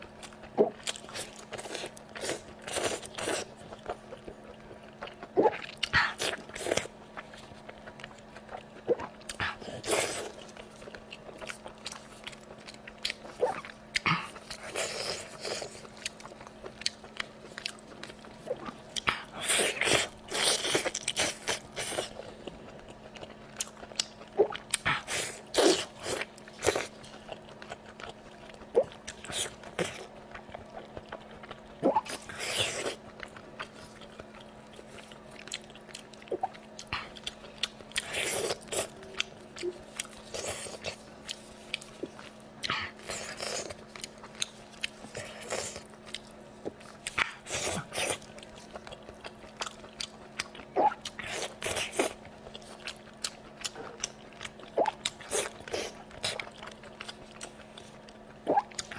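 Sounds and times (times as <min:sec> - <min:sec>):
faint steady hum: 0:00.0 - 0:58.9
chewing and biting: 0:00.1 - 0:58.9.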